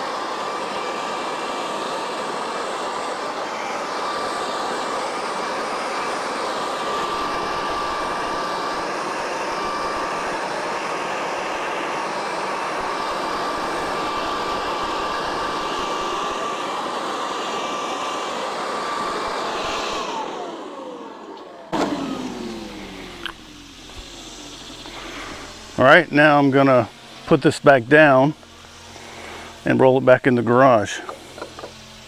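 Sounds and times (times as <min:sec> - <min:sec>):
electric leaf blower whining: 0:00.0 - 0:32.0.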